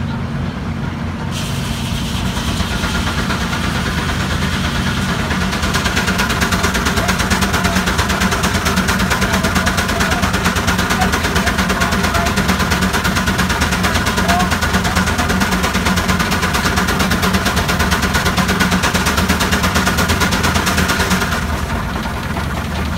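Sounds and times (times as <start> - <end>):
steam engine exhaust beating: 0.0 - 22.9.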